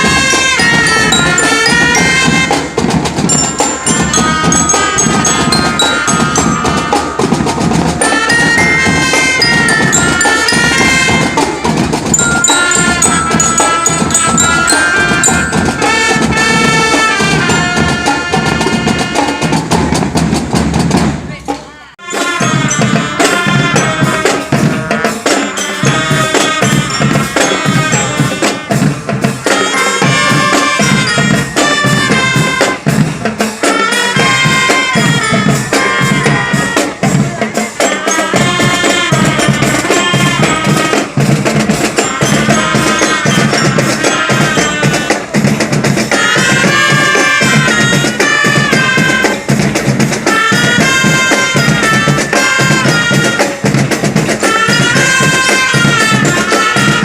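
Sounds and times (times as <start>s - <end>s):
drums beating: 0.0s - 57.0s
marching band playing: 0.0s - 57.0s.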